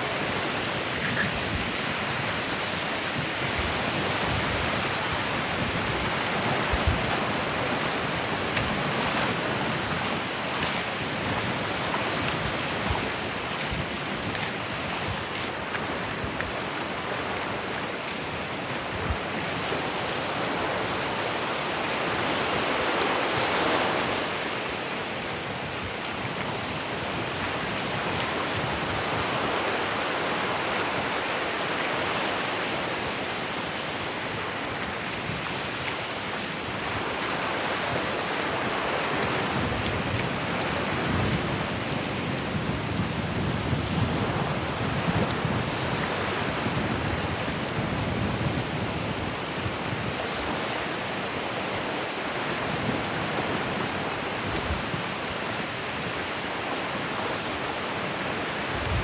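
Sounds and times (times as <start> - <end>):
ocean surf washing on beach: 0.0 - 59.0.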